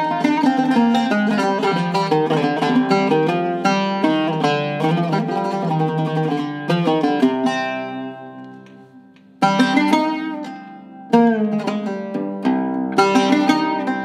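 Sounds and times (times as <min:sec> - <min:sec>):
oud playing solo: 0:00.0 - 0:14.0.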